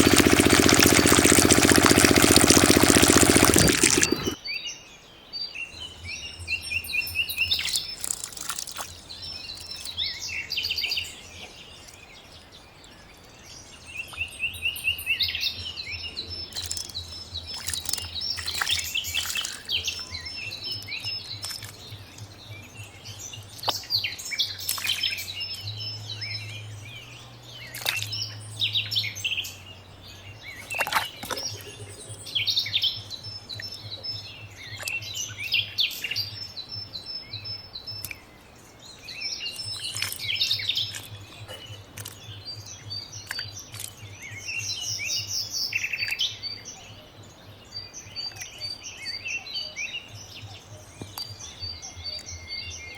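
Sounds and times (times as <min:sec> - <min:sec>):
small birds chirping and trilling: 0:00.0 - 0:52.9.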